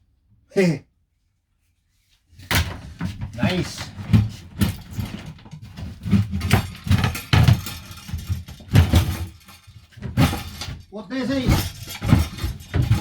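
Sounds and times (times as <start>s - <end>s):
knocks and clatters of parts: 2.4s - 13.0s.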